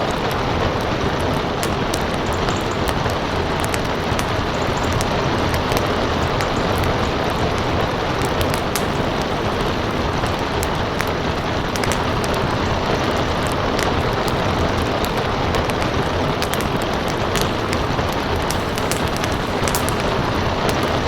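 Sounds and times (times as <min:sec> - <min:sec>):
fireplace fire crackling: 0:00.0 - 0:21.0
steady rain: 0:00.0 - 0:21.0.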